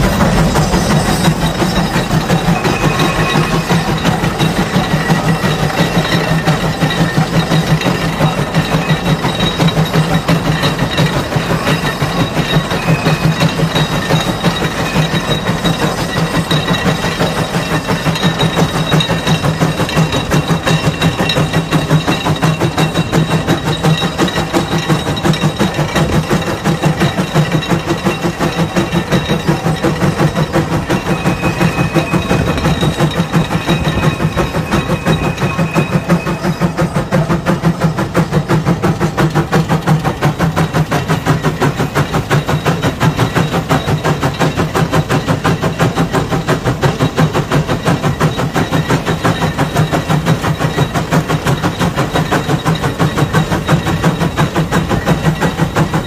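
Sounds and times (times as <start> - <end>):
steam engine exhaust chuffing: 0.0 - 56.0.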